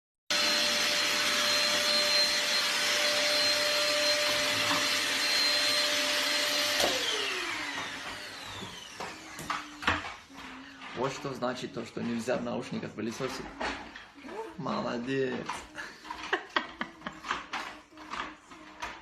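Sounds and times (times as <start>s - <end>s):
vacuum cleaner motor whining: 0.3s - 19.0s.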